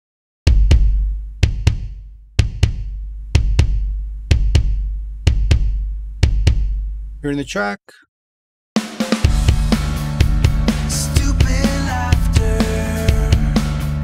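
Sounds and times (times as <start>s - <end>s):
deep kick drum beat: 0.4s - 7.2s, 9.1s - 14.0s.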